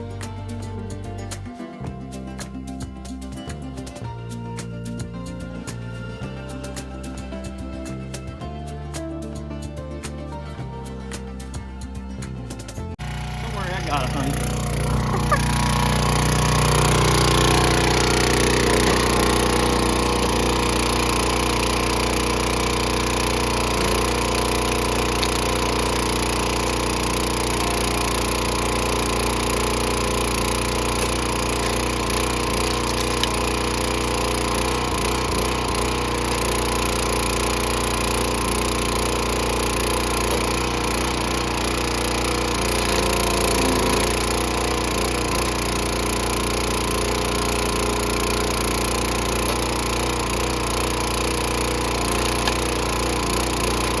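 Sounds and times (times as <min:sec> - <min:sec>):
small gasoline engine running: 0:00.0 - 0:54.0.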